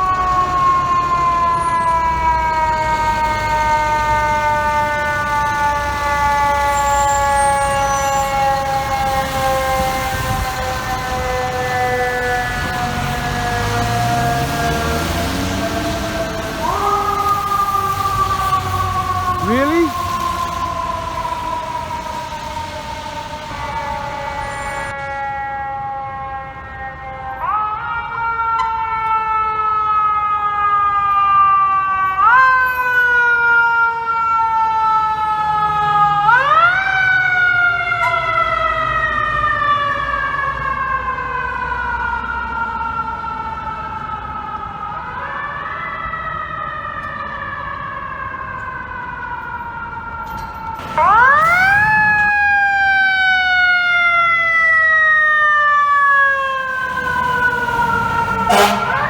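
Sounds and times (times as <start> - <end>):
low traffic rumble: 0.0 - 32.0, 33.4 - 59.0
fire truck siren wailing: 0.0 - 59.0.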